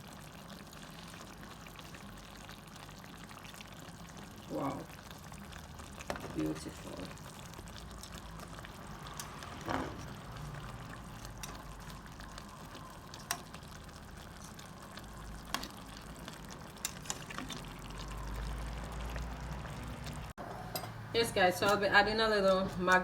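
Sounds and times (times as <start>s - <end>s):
sauce simmering in a pot: 0.0s - 20.7s.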